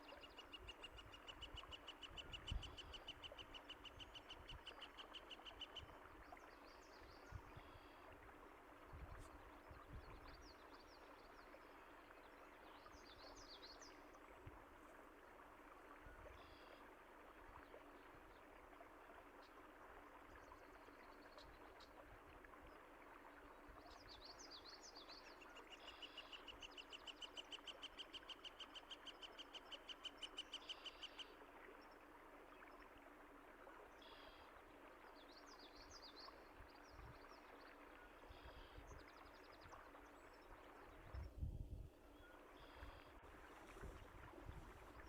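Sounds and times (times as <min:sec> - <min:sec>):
flowing water: 0:00.0 - 0:45.0.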